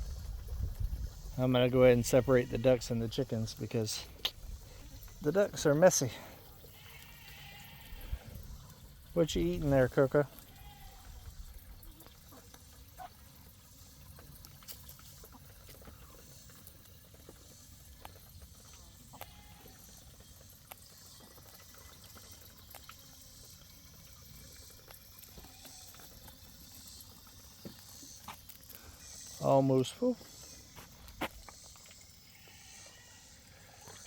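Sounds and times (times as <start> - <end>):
water trickling into container: 0.0 - 34.0.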